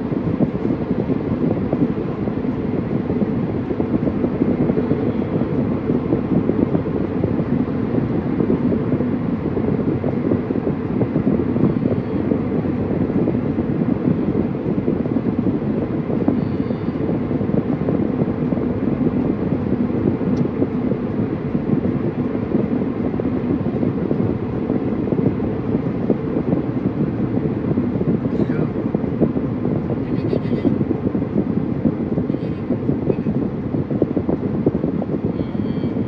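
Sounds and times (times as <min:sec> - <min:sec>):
road and tyre noise in car: 0:00.0 - 0:36.0.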